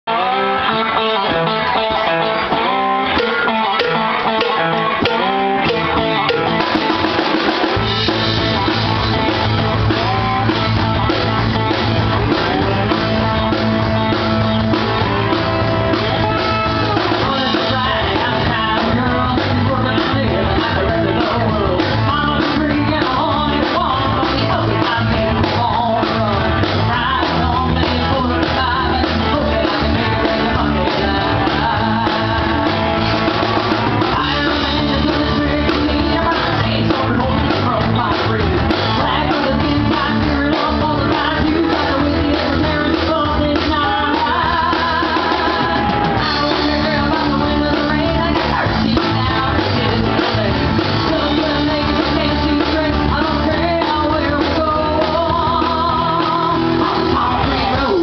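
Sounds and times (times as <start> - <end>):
bass guitar: 0.0 - 58.0
drum kit: 0.0 - 58.0
electric and acoustic guitars: 0.0 - 58.0.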